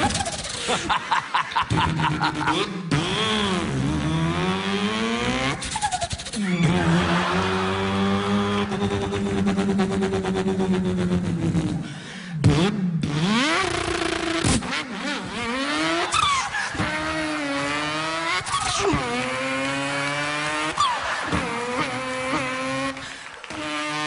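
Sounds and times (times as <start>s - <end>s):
man imitating car engine: 0.0s - 24.0s.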